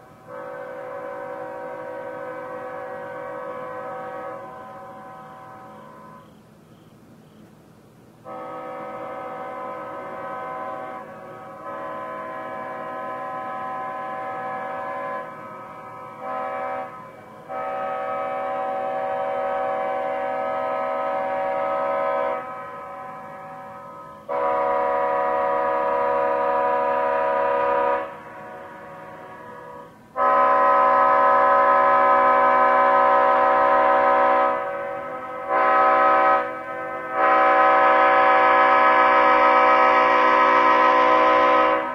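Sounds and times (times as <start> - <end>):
locomotive air horn blasts: 0.0 - 6.9, 8.2 - 41.9.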